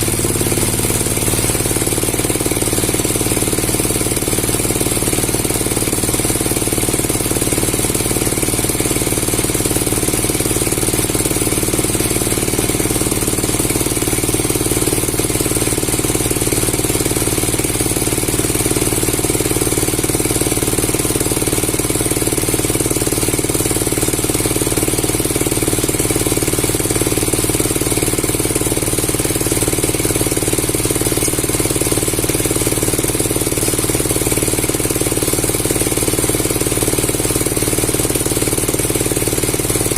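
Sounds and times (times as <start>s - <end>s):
machine motor pulsing: 0.0s - 39.9s.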